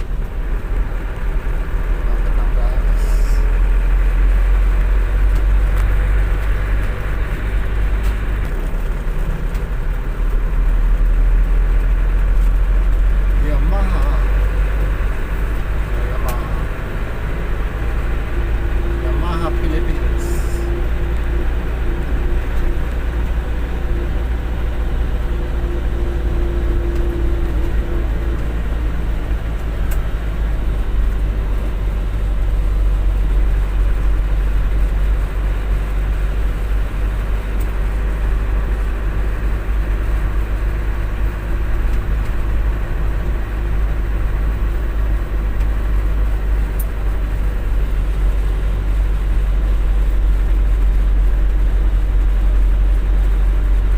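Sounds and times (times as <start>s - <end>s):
mid-pitched hum: 0.0s - 53.9s
truck engine rumbling: 0.0s - 53.9s.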